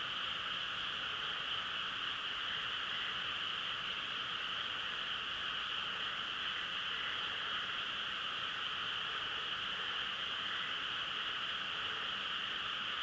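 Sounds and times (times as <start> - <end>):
frog chorus: 0.0 - 13.0
rain: 0.0 - 13.0.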